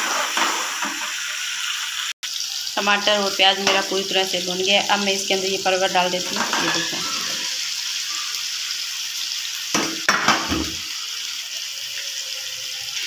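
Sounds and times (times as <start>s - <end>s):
vegetables sizzling in pot: 0.0s - 13.0s.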